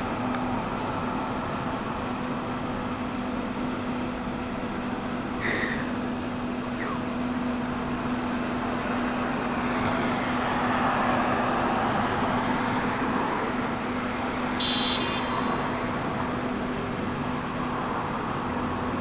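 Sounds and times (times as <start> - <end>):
street traffic passing: 0.0 - 19.0.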